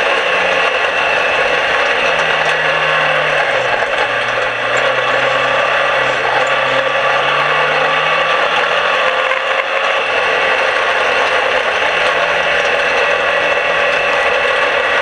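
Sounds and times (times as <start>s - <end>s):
mechanical rattle of car: 0.0s - 15.0s
race car engine: 0.0s - 15.0s.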